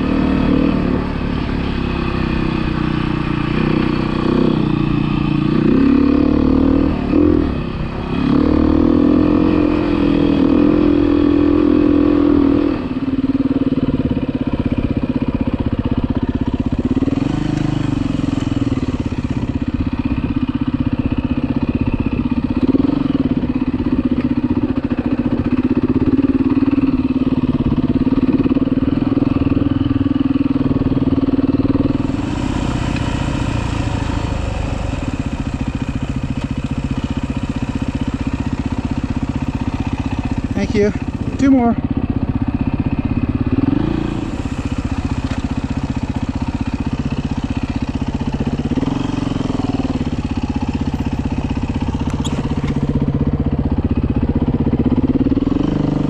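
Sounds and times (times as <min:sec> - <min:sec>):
dirt bike engine revving: 0:00.0 - 0:13.1, 0:16.5 - 0:20.6, 0:21.8 - 0:53.1, 0:54.6 - 0:56.0.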